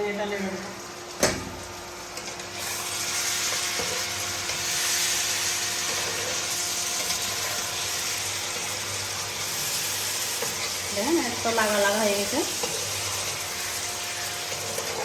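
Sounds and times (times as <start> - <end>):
curry sizzling in a frying pan: 0.0 - 15.0.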